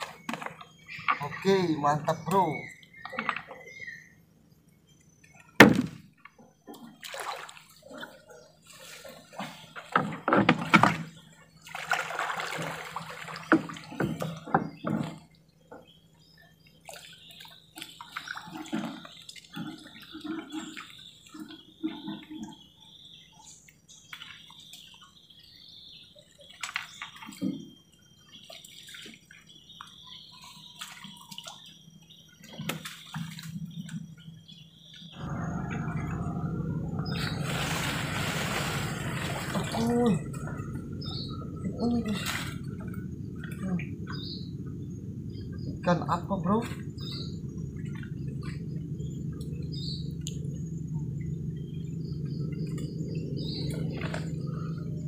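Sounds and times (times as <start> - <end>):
water splashing and dripping: 5.2 - 23.0, 23.6 - 25.5, 26.2 - 34.3, 34.9 - 55.0.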